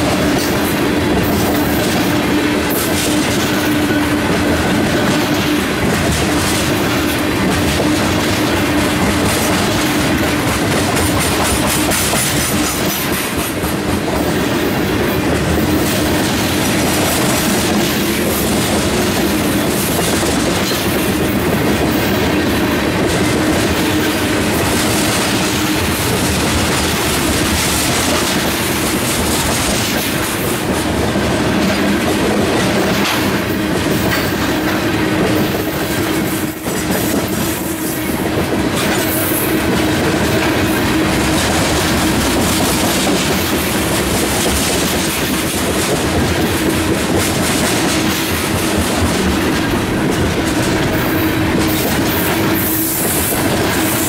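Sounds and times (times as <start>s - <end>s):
train wheels rumbling on rails: 0.0s - 54.0s
wheels clicking over rail joints: 0.0s - 54.0s.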